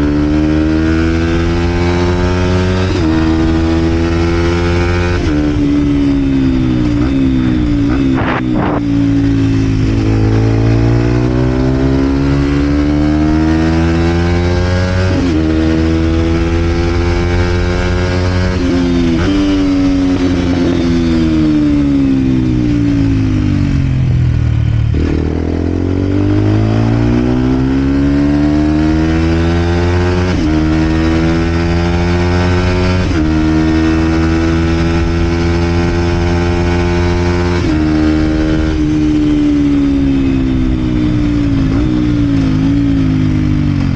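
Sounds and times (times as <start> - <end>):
motorcycle engine shifting gears: 0.0 - 43.9.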